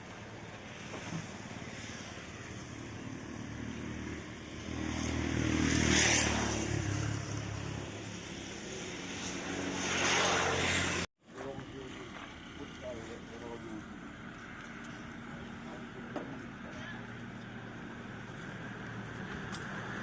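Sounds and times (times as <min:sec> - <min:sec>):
vehicle engine passing by: 0:00.7 - 0:20.0.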